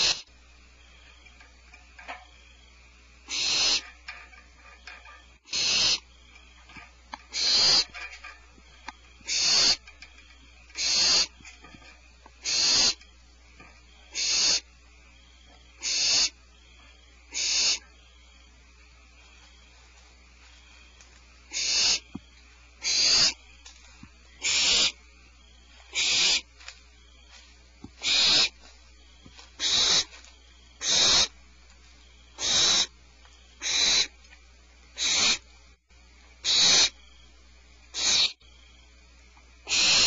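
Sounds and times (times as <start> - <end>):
owl nestlings rasping hiss: 0.0 - 2.2, 3.2 - 16.5, 17.2 - 18.0, 19.1 - 35.6, 36.3 - 37.2, 37.8 - 38.5, 39.6 - 40.0
faint steady hum: 0.0 - 40.0.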